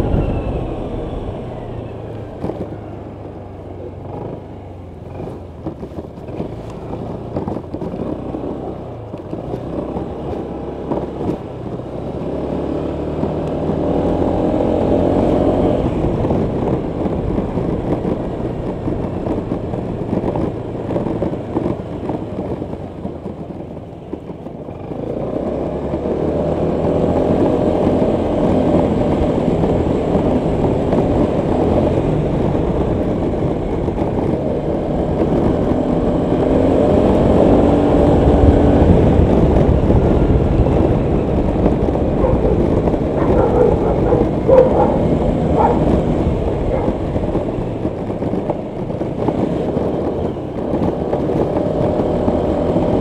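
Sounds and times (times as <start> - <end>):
road noise: 0.0 - 53.0
scooter engine running: 0.0 - 53.0.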